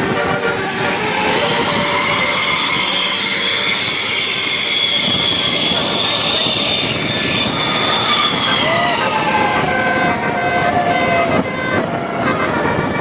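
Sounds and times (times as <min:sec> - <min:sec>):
multi-trumpet bus air horn: 0:00.0 - 0:13.0
traffic noise: 0:00.0 - 0:13.0.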